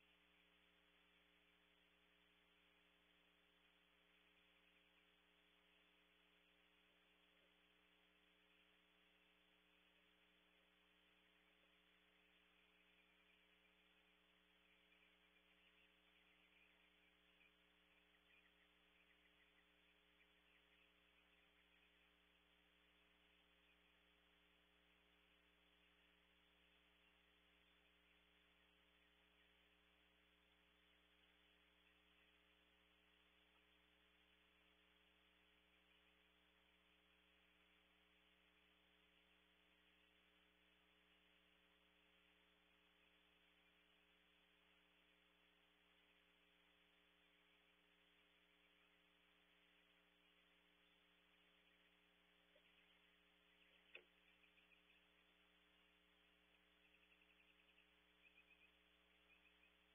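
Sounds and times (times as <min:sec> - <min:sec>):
faint electrical hum and hiss: 0:00.0 - 0:59.9.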